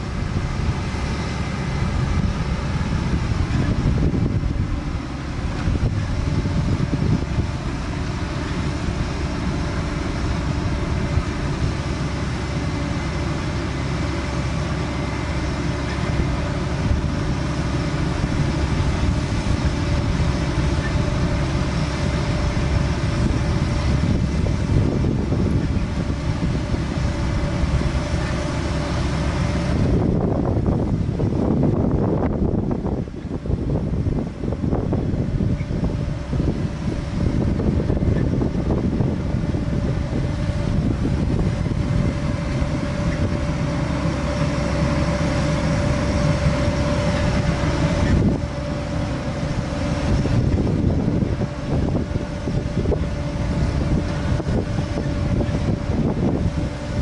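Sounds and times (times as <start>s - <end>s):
harvester machinery droning: 0.0s - 57.0s.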